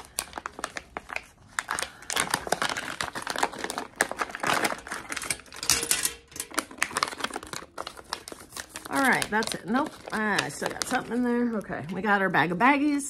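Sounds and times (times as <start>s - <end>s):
paper pouch crinkling: 0.0s - 5.6s, 6.3s - 11.8s.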